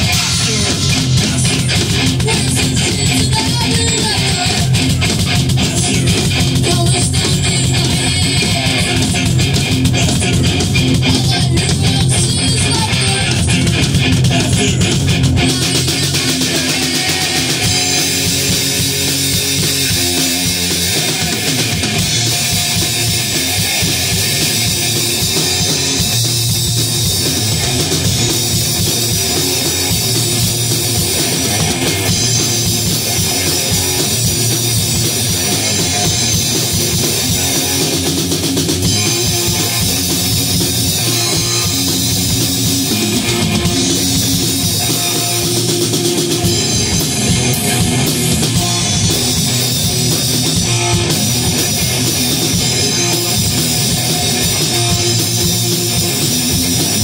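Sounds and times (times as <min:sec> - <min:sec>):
drum kit beat: 0:00.0 - 0:57.0
electric guitar riffing: 0:00.0 - 0:57.0.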